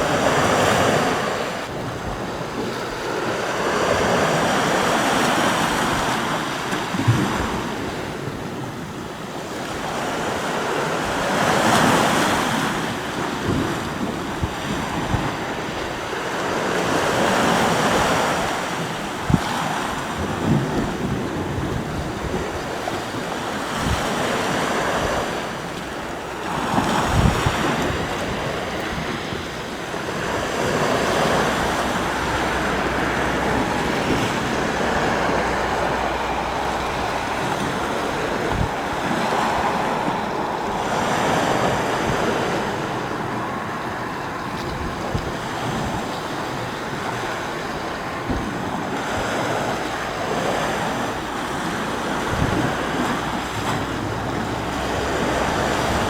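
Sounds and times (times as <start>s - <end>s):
sea waves on shore: 0.0s - 56.0s
wind on microphone: 0.0s - 56.0s.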